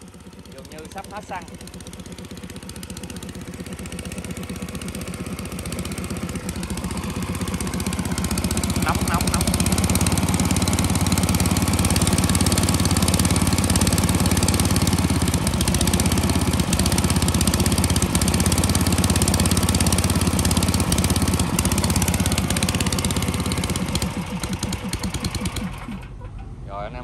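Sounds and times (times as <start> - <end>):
petrol engine driving air compressor: 0.0 - 26.6.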